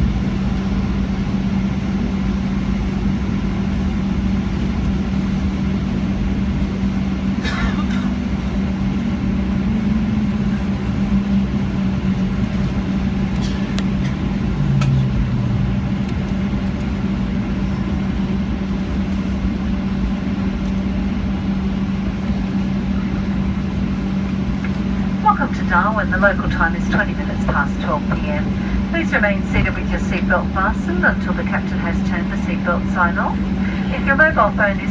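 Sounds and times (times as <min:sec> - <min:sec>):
constant low drone: 0:00.0 - 0:34.9
jet engines humming: 0:00.0 - 0:34.9.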